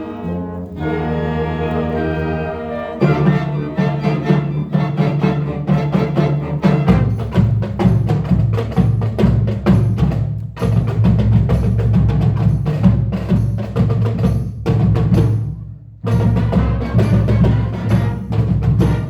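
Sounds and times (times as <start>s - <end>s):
marching band music: 0.0s - 19.0s.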